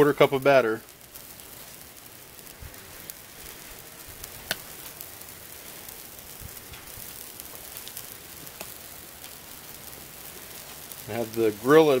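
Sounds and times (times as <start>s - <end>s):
batter sizzling on a griddle: 0.0s - 12.0s.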